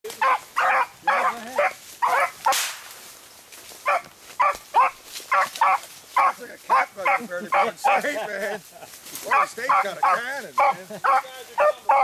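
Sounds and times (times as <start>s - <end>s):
hounds baying: 0.1s - 2.6s, 3.8s - 12.0s.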